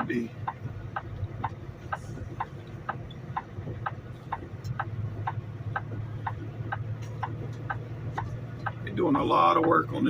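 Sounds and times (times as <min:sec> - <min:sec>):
diesel engine hum: 0:00.0 - 0:10.0
turn signal clicking: 0:00.0 - 0:10.0.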